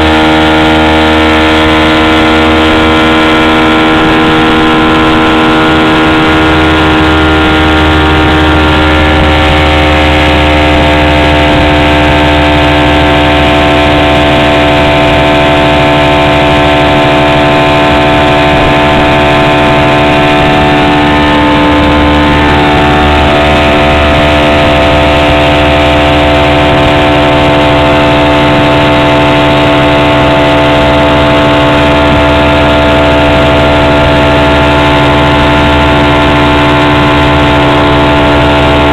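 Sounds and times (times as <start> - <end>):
outboard motor droning: 0.0 - 38.9.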